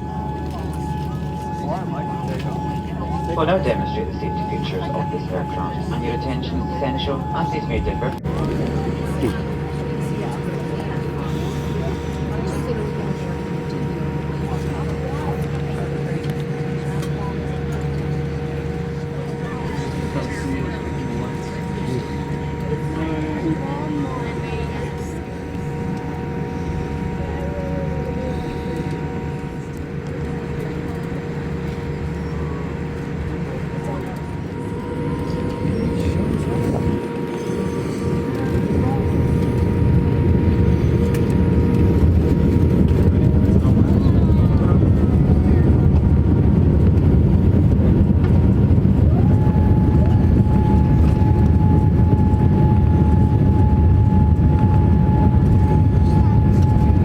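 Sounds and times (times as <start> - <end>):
airliner cabin rumble: 0.0 - 57.0
faint whining tones: 0.0 - 57.0.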